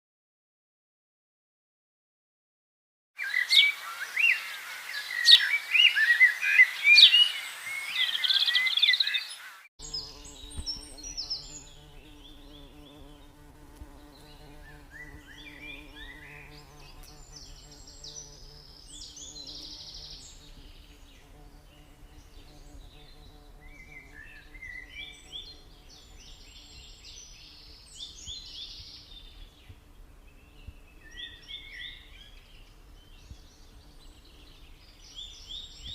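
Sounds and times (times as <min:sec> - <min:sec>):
caged birds chirping: 0:03.2 - 0:35.9.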